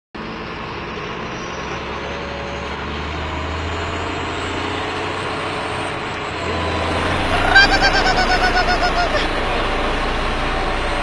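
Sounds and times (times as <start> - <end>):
farm machine engine drone: 0.2 - 11.0.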